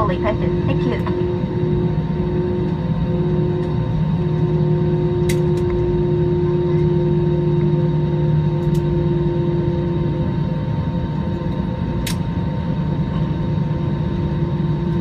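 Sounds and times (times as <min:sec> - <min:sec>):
aircraft engines humming: 0:00.0 - 0:15.0
low rumble: 0:00.0 - 0:15.0.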